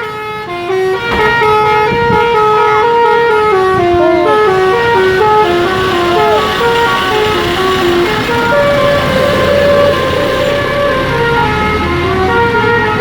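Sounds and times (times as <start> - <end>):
musical air horn playing a tune: 0.0 - 10.8.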